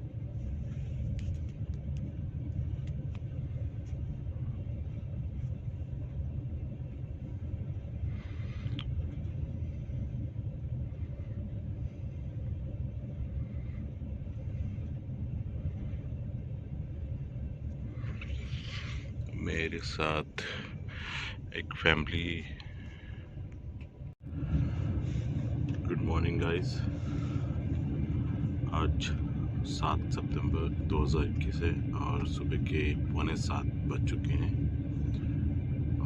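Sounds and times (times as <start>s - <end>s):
passenger train rumbling: 0.0s - 36.0s.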